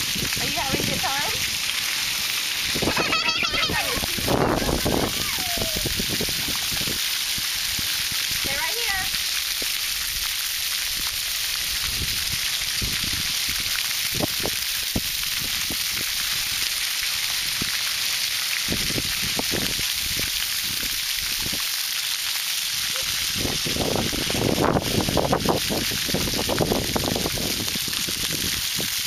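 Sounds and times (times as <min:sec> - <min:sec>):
fountain jets spraying water: 0:00.0 - 0:29.0.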